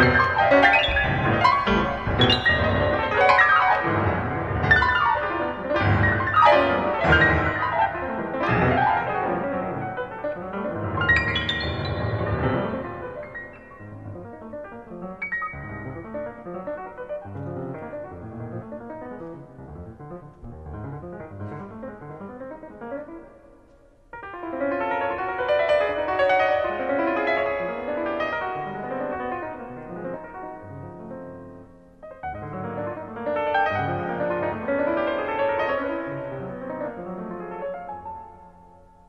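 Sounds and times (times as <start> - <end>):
solo piano improvisation: 0.0 - 39.0.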